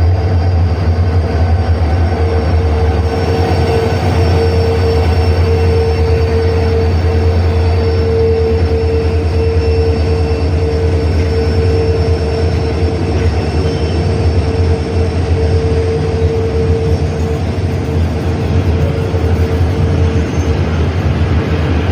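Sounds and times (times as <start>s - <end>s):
diesel locomotives humming: 0.0s - 21.9s.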